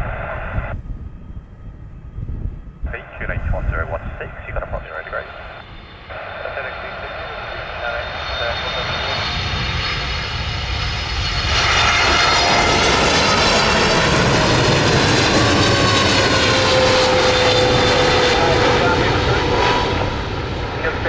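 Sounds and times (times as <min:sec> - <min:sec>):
jet airliner engine noise: 0:00.0 - 0:21.0
jet engine whine: 0:00.0 - 0:21.0.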